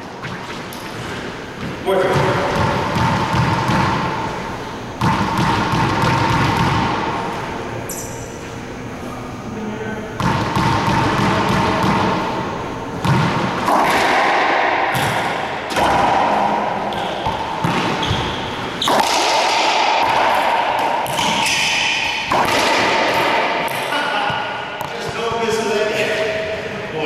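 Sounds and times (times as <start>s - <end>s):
racquetball hits echoing: 0.0s - 8.4s, 10.1s - 26.8s.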